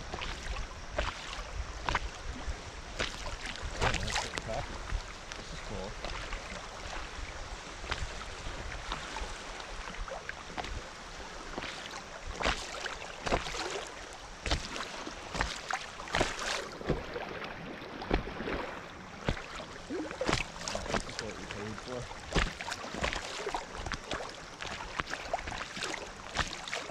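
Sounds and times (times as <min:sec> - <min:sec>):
creek water rushing: 0:00.0 - 0:26.9
water splashing against kayak: 0:00.0 - 0:26.9.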